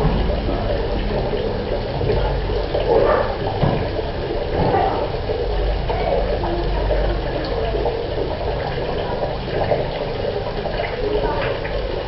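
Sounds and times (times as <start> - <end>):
water pouring into a bucket: 0.0 - 12.0.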